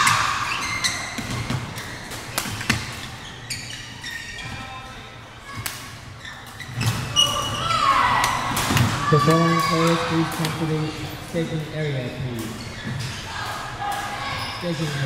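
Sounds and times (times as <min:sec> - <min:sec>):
sports shoes squeaking: 0:00.0 - 0:08.1, 0:09.0 - 0:13.5, 0:14.2 - 0:15.0.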